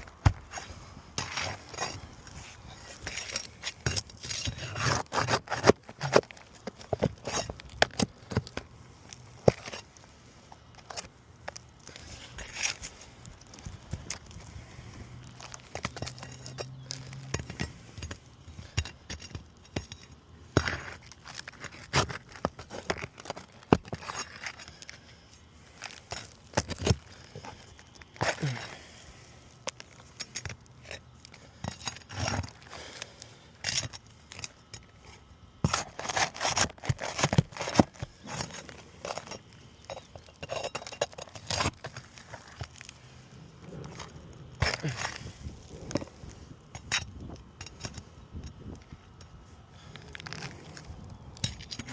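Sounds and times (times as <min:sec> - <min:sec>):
shingles scraping and crackling: 0:00.0 - 0:51.9.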